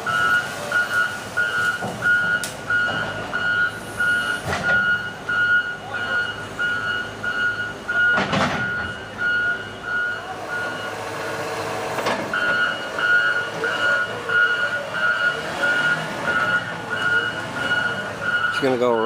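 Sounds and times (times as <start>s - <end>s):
truck back-up alarm beeping: 0.0s - 19.0s.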